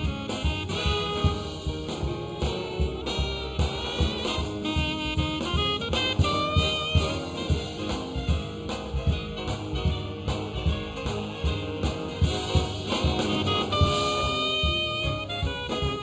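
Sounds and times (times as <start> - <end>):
big band jazz playing swing: 0.0 - 16.0
drum kit beat: 0.0 - 16.0.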